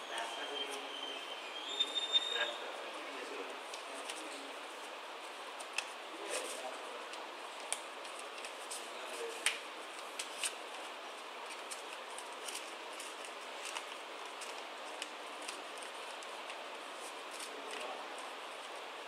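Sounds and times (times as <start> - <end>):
paper crinkling: 3.7 - 19.0.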